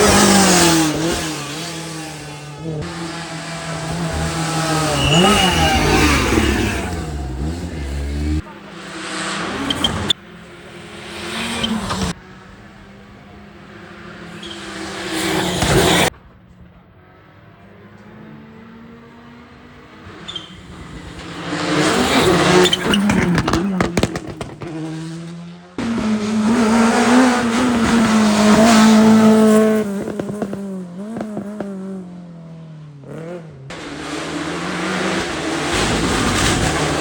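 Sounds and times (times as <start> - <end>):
rally car engine revving: 0.0 - 16.1, 17.6 - 37.0.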